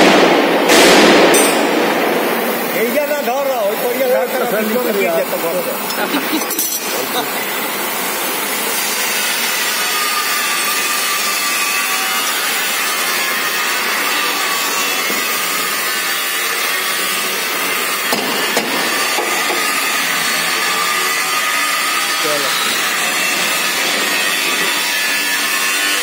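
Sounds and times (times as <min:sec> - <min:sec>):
gas torch hissing: 0:01.6 - 0:26.0.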